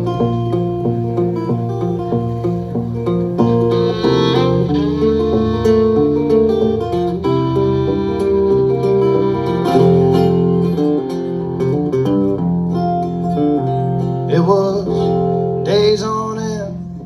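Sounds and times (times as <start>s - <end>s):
acoustic guitar: 0.0s - 17.0s
bass notes: 0.0s - 17.0s
wavering higher melody: 0.5s - 14.2s.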